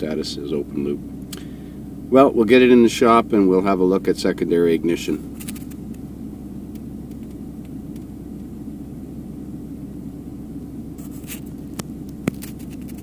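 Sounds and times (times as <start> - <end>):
engine idling with low rumble: 0.0 - 13.0.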